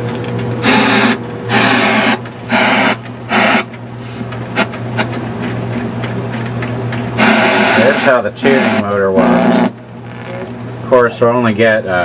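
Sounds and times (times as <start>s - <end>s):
steady low hum: 0.0s - 12.0s
tuner mechanism whirring: 0.0s - 12.0s.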